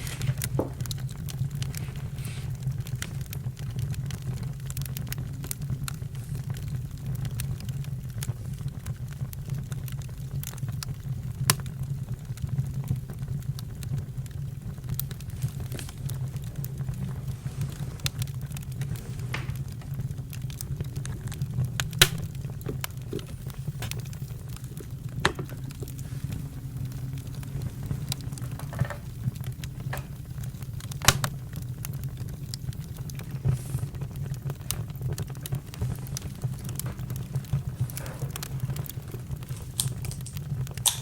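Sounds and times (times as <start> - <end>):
campfire crackling and snapping: 0.0 - 41.0.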